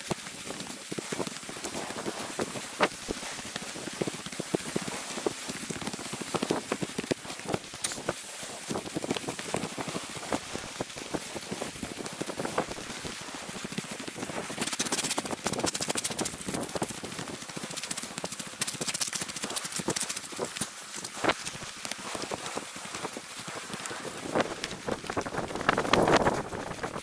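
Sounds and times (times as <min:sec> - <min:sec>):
footsteps on pebbles: 0:00.0 - 0:27.0.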